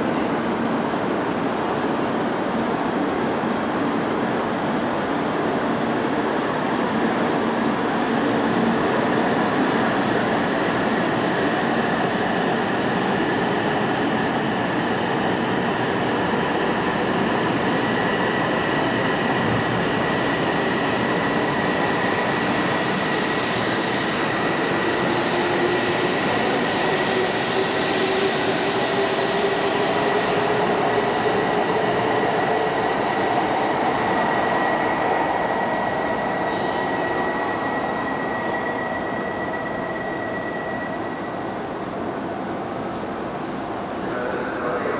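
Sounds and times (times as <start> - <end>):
train running noise with rising whine: 0.0 - 44.9.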